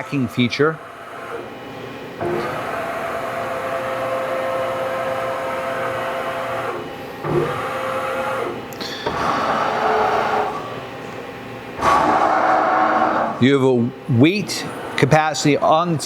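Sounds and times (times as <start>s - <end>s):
mill axis drives whirring: 0.0s - 16.0s.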